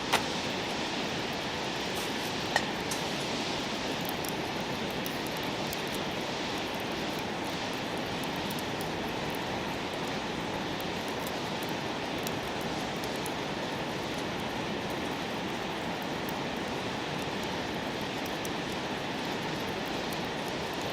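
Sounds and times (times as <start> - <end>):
campfire crackling: 0.0 - 20.9.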